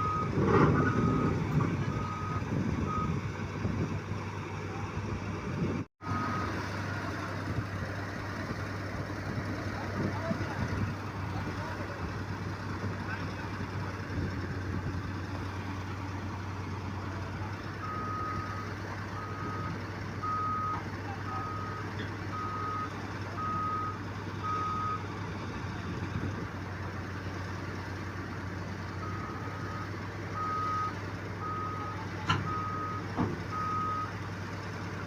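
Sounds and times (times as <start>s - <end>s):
large diesel engine running: 0.0s - 35.0s.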